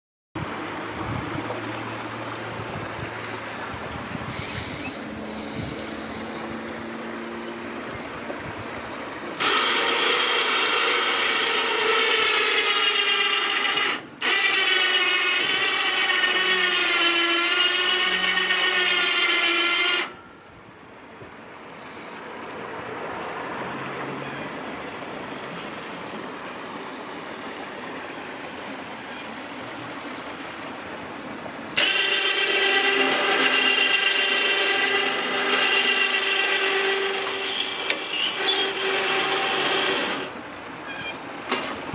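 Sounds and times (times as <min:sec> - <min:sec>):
winch motor whining: 0:00.4 - 0:20.6, 0:27.5 - 0:41.9.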